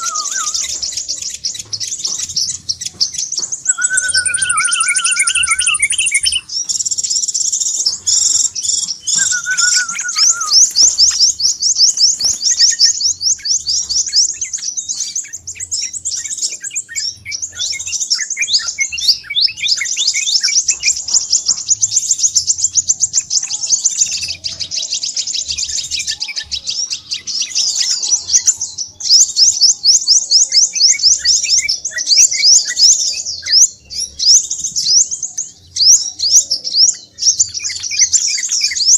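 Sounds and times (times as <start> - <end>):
bird chittering: 0.0 - 38.9.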